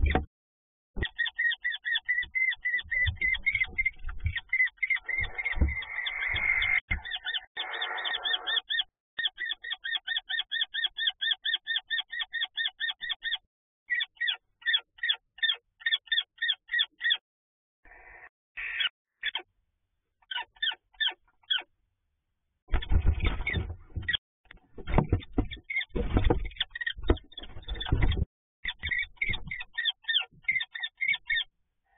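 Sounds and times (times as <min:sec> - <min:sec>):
kestrels calling: 0:01.0 - 0:17.2, 0:18.0 - 0:19.5, 0:20.2 - 0:21.7, 0:24.8 - 0:31.5.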